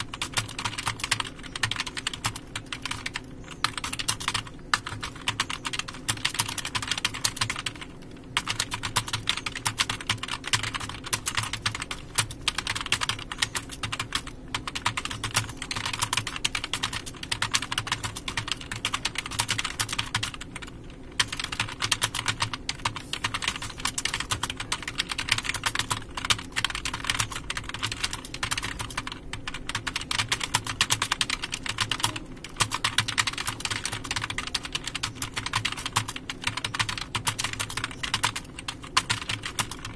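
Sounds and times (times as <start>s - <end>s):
fast keyboard typing: 0.0s - 39.9s
low steady hum: 0.0s - 39.9s.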